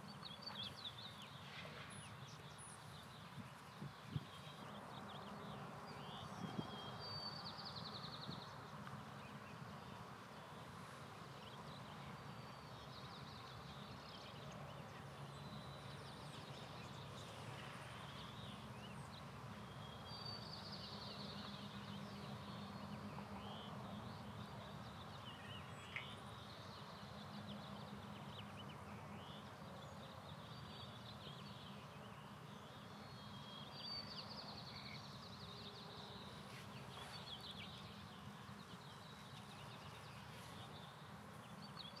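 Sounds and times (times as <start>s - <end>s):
small birds trilling and chirping: 0.0s - 42.0s.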